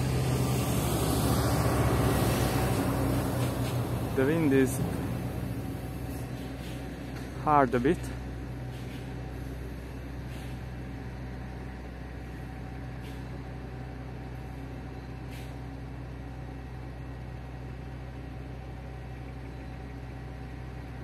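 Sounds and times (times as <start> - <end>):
low rumble with hiss: 0.0 - 21.0.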